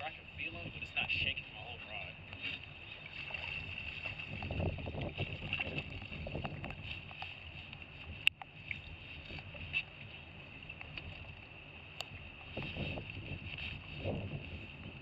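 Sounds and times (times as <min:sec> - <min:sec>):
water sloshing and lapping: 0:00.0 - 0:15.0
wind noise on microphone: 0:00.0 - 0:15.0.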